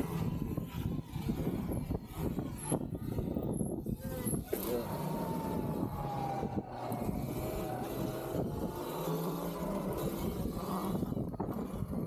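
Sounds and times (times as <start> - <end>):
electric motor whine: 0.0 - 12.0
wind and riding noise: 0.0 - 12.0.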